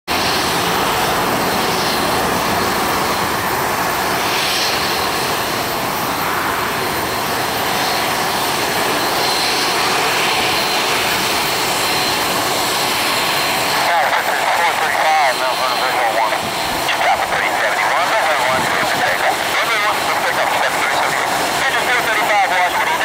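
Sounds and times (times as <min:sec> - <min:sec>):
jet engine hiss and whine: 0:00.1 - 0:23.0.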